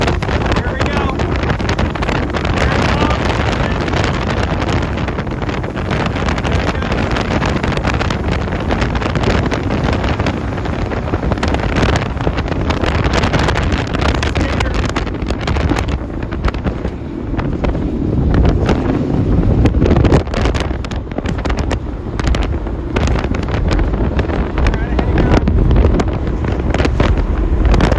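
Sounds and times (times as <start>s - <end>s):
powerboat engines rumbling: 0.0s - 27.9s
wind buffeting microphone: 0.0s - 27.9s.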